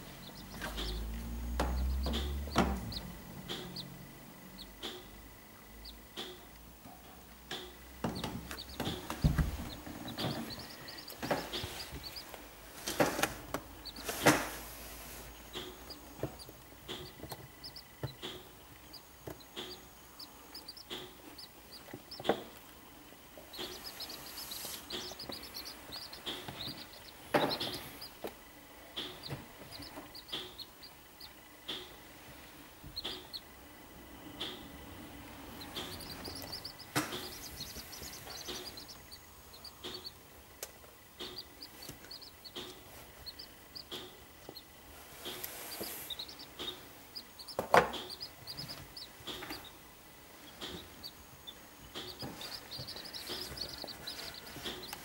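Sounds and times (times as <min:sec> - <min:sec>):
chicks cheeping: 0:00.0 - 0:06.7, 0:07.3 - 0:55.0.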